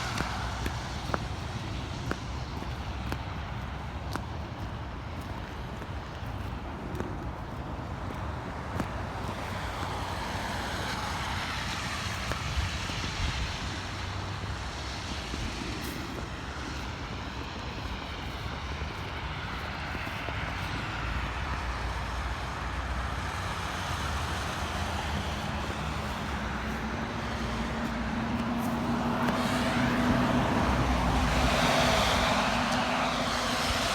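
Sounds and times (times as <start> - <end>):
road traffic noise: 0.0 - 33.9
vehicle approaching: 0.0 - 33.9.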